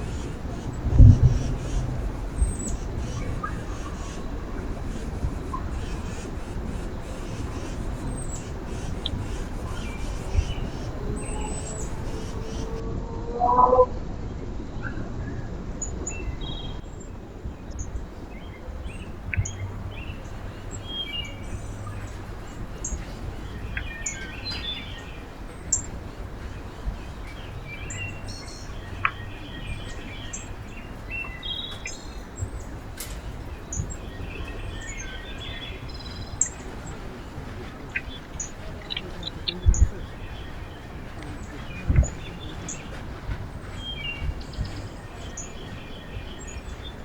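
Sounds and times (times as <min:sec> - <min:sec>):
small songbirds chirping: 0:00.0 - 0:12.8, 0:14.3 - 0:47.0
low background rumble: 0:00.0 - 0:47.0.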